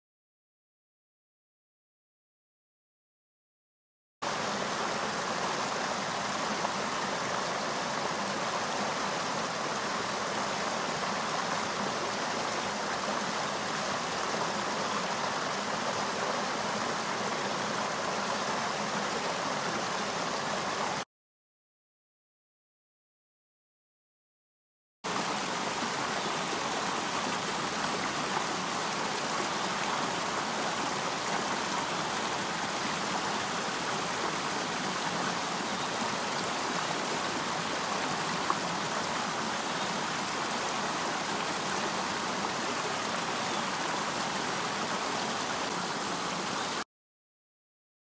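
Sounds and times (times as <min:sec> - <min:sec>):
creek water rushing and splashing: 0:04.2 - 0:21.0, 0:25.1 - 0:46.8.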